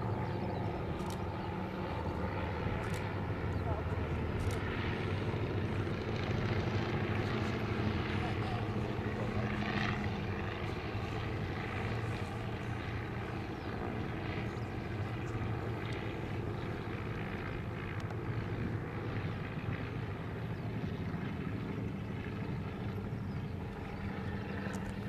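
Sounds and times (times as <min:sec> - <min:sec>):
propeller airplane engine droning: 0:00.0 - 0:25.0.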